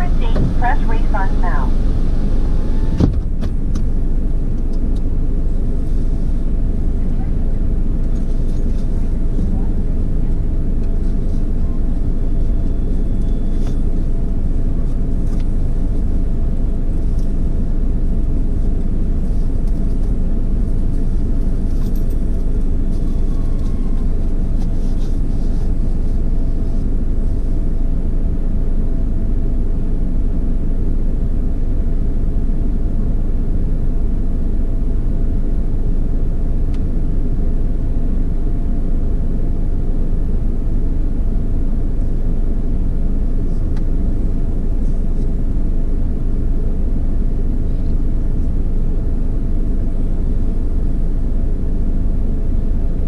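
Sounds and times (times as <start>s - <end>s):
car wash machinery rumbling: 0.0s - 53.0s.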